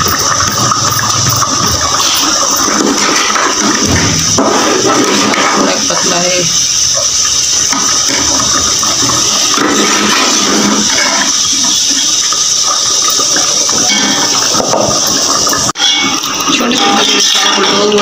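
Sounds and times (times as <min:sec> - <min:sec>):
gas burner hissing: 0:00.0 - 0:18.0.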